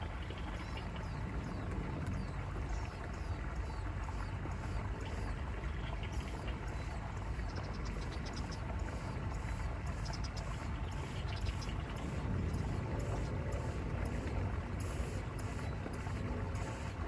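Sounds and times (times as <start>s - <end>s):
birds chirping: 0.0s - 16.9s
steady low rumble: 0.0s - 17.0s.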